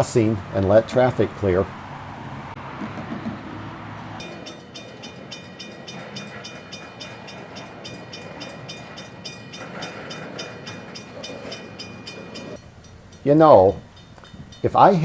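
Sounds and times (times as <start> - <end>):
railroad crossing bell ringing: 0.0 - 2.6, 4.2 - 15.0
faint train rumble: 0.0 - 15.0.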